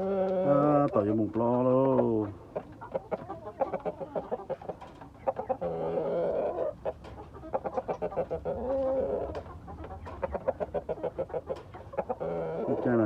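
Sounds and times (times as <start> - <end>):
chicken drawn-out calls: 0.0 - 13.0
chickens clucking: 0.0 - 13.0.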